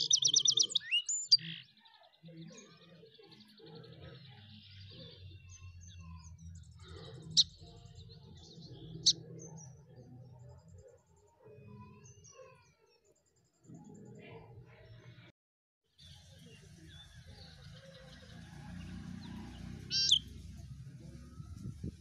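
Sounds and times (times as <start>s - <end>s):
small birds chirping: 0.0s - 15.3s, 16.0s - 22.0s.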